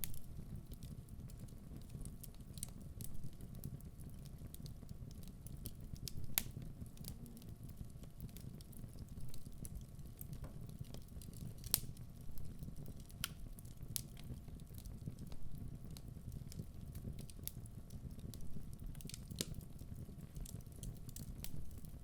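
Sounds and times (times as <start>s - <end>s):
fire flames rumbling: 0.0s - 22.0s
logs crackling and popping: 0.0s - 22.0s.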